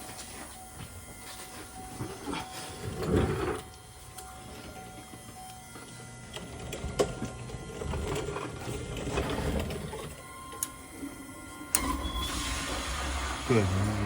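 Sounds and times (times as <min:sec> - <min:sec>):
fuel pump whirring: 0:00.0 - 0:14.0.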